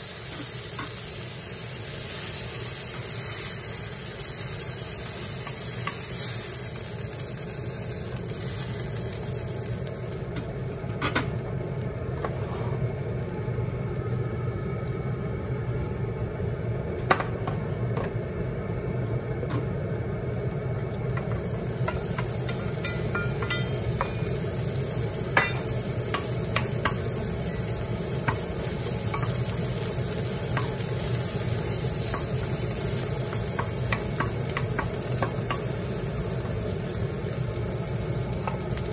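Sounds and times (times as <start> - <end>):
meat sizzling in a pan: 0.0 - 13.6, 21.0 - 38.9.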